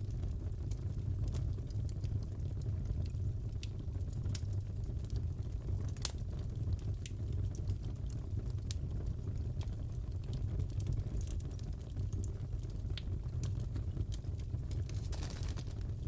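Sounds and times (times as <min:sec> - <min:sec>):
fire popping and crackling: 0:00.0 - 0:16.0
fire rumbling: 0:00.0 - 0:16.0.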